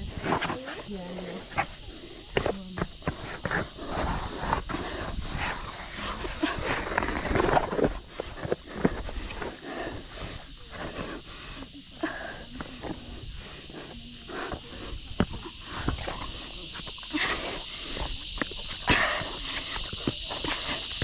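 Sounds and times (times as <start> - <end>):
hard breathing: 1.0 - 21.0
running footsteps on rock: 1.3 - 21.0.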